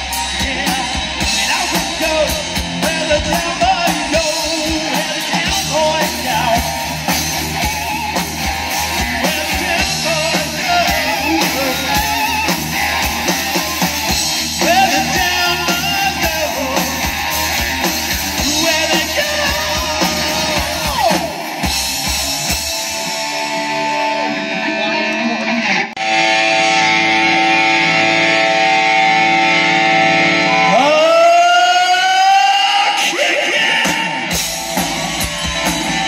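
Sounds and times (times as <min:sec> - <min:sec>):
person singing lead vocals: 0:00.0 - 0:22.0, 0:27.5 - 0:36.0
drums: 0:00.0 - 0:36.0
electric guitars: 0:00.0 - 0:36.0
hard rock band playing: 0:00.0 - 0:36.0.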